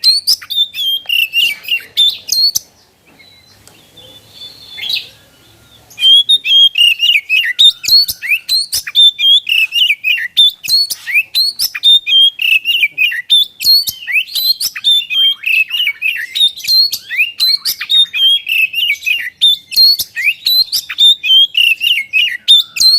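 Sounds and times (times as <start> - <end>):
bird chirps and whistles: 0.0 - 22.9.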